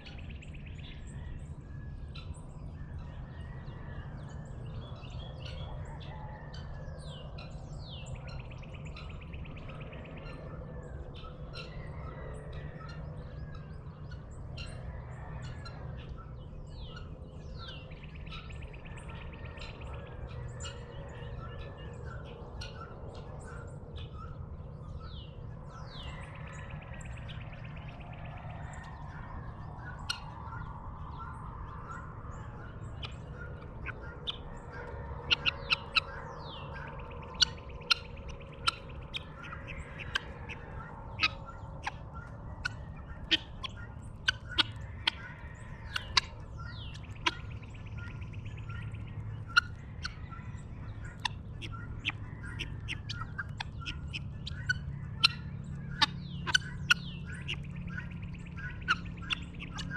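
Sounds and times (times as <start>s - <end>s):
songbirds chirping: 0.0s - 59.9s
steady low rumble: 0.0s - 59.9s.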